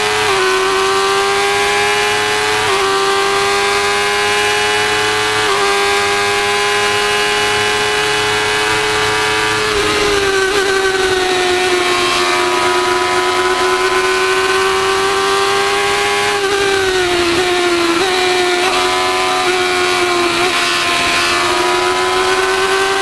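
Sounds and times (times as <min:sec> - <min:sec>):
racing car engine at high revs: 0:00.0 - 0:23.0.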